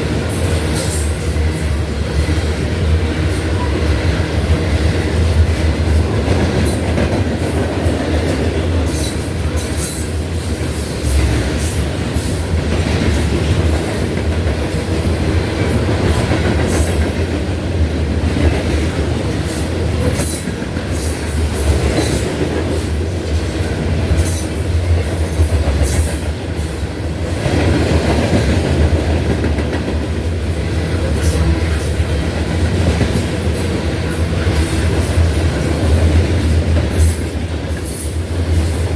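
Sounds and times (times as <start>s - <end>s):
rumble of train wheels on rail: 0.0s - 38.9s
wheels clicking on track: 0.0s - 38.9s.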